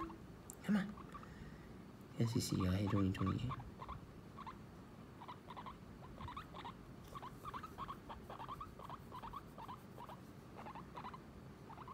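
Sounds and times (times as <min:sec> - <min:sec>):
guinea pig soft squeaks: 0:00.0 - 0:00.2, 0:00.8 - 0:01.2, 0:02.2 - 0:11.9.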